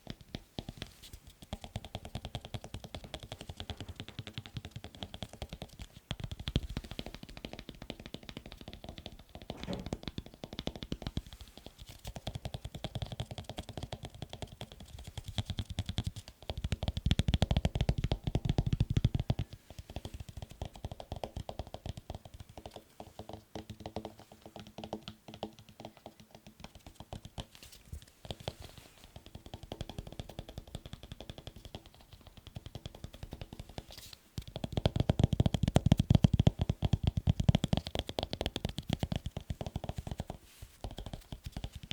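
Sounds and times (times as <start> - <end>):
rapid tapping on objects: 0.0 - 41.9.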